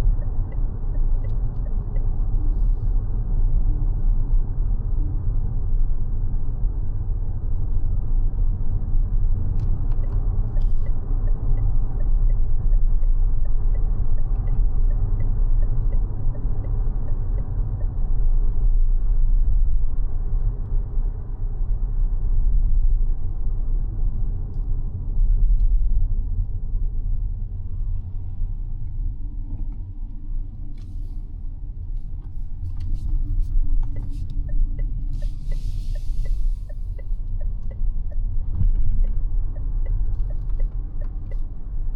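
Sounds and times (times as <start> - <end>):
road and tyre rumble: 0.0 - 41.9.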